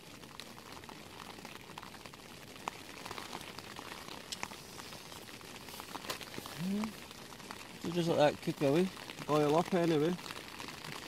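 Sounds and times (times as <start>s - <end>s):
camping stove hissing: 0.6s - 11.0s.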